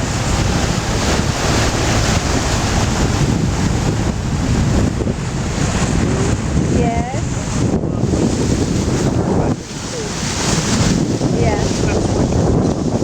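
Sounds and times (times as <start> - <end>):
water rushing past boat hull: 0.0 - 13.0
wind buffeting microphone: 0.0 - 13.0.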